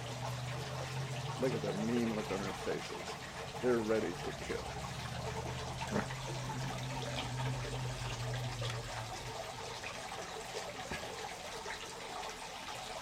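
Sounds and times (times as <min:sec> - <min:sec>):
low steady hum: 0:00.0 - 0:12.4
fountain water trickling: 0:00.0 - 0:13.0.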